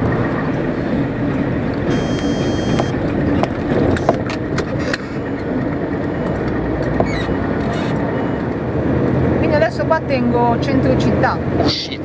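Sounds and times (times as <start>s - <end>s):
truck engine and tyre noise: 0.0s - 12.0s.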